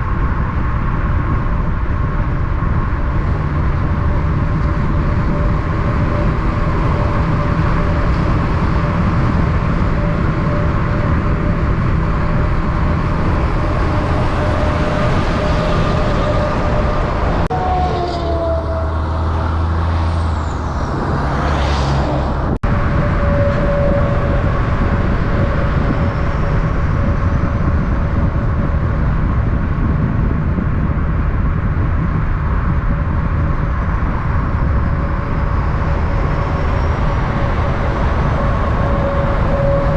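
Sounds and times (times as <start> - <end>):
heavy road vehicle noise: 0.0 - 39.9.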